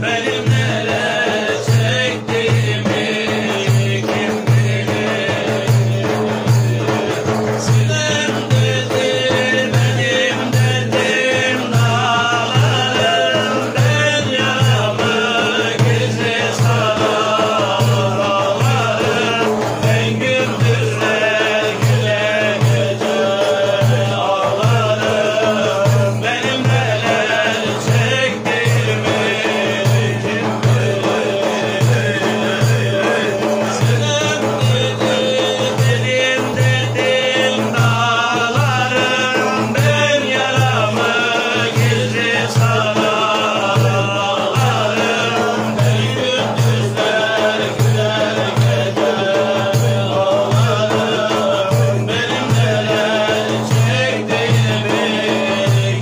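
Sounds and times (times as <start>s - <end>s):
man singing lead melody: 0.0s - 56.0s
men chanting low: 0.0s - 56.0s.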